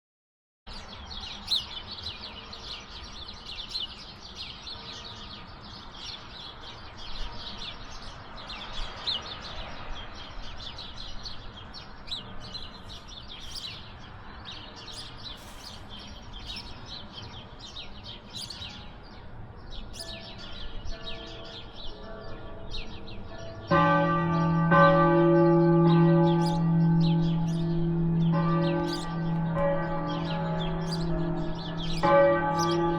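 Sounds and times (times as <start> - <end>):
songbirds chirping and twittering: 0.7 - 32.9
faint church bells ringing: 2.2 - 32.9.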